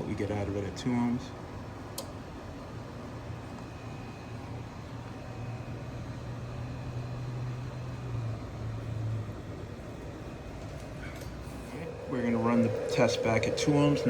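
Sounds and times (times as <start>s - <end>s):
constant background noise: 0.0s - 14.0s
low steady hum: 0.0s - 14.0s.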